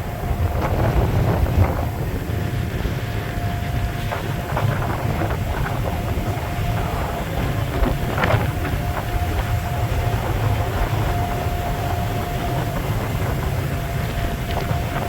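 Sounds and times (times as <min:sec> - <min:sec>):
faint steady whine: 0:00.0 - 0:15.0
ferry engine rumble: 0:00.0 - 0:15.0.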